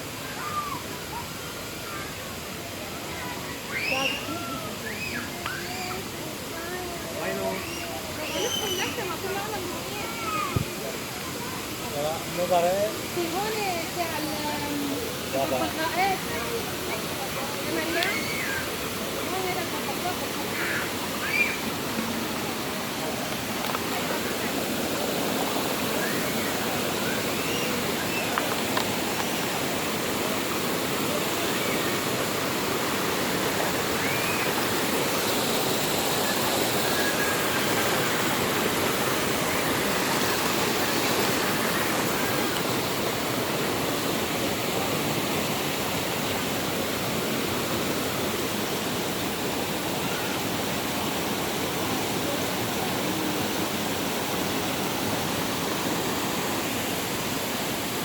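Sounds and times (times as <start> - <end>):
waterfall pouring: 3.8 - 58.0.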